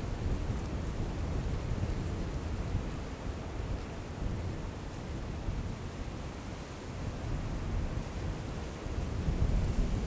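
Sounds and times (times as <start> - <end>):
wind buffeting microphone: 0.0 - 6.0, 7.0 - 10.0.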